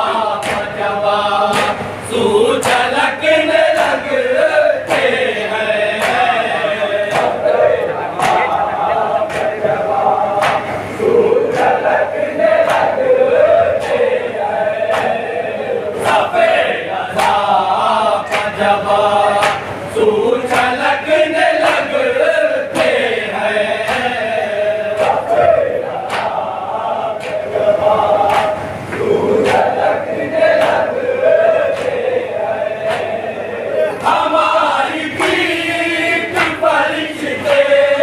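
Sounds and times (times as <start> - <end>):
men chanting in unison: 0.0 - 38.0.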